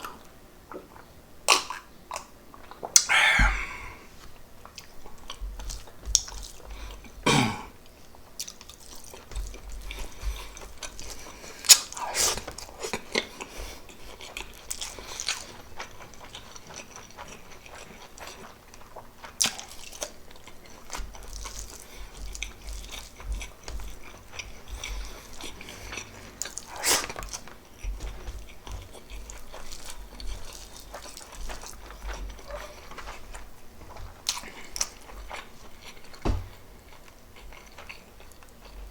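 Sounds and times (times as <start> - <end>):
wet chewing and mouth clicks: 0.0 - 3.9, 4.6 - 7.2, 7.8 - 38.9.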